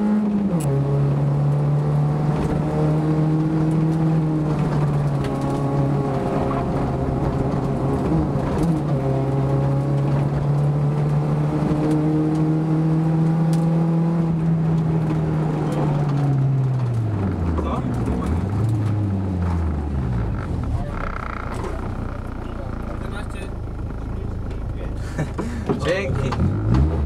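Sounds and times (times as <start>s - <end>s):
car engine at high revs: 0.0s - 27.0s.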